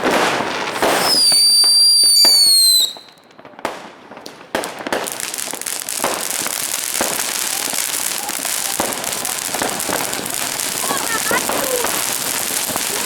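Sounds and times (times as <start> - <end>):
firecrackers crackling: 0.0 - 13.0
firework bangs: 0.0 - 13.0
whistling firework: 0.0 - 13.0.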